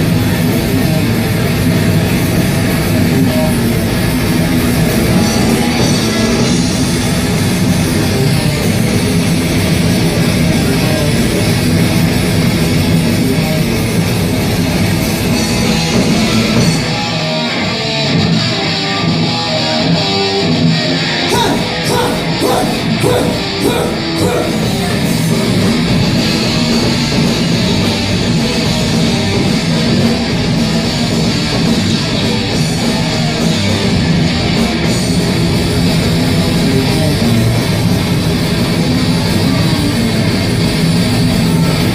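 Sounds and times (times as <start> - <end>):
heavy rock band playing: 0.0 - 41.9.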